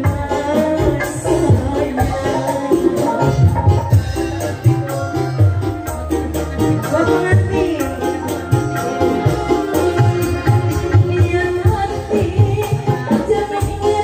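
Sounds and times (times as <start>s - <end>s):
woman singing into a microphone: 0.0s - 4.2s, 6.6s - 14.0s
hand-drum beat: 0.0s - 14.0s
live band music: 0.0s - 14.0s.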